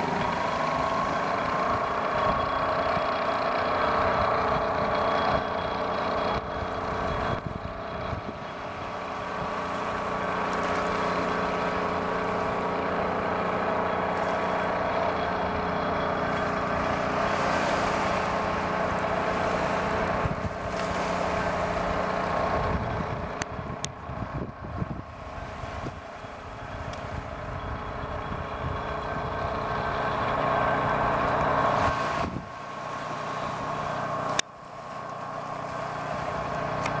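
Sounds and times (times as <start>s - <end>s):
motor hum with tones: 0.0s - 37.0s.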